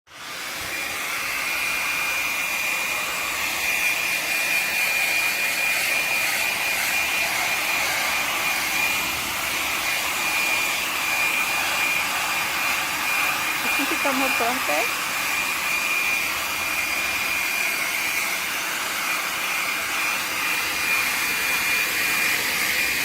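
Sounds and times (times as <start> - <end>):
hair dryer blowing air: 0.1 - 23.0.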